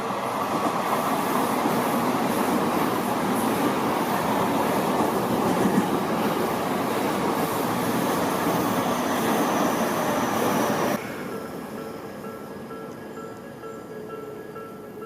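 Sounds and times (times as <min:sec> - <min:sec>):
electric train wheels rumbling: 0:00.0 - 0:15.0.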